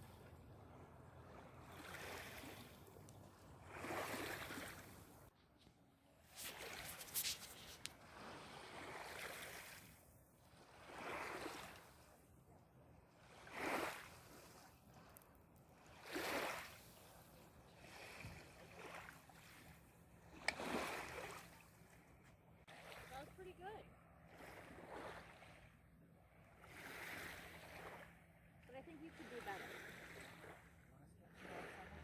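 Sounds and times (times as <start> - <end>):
small waves washing onto shore: 0.0 - 5.3, 6.2 - 12.3, 13.0 - 32.0.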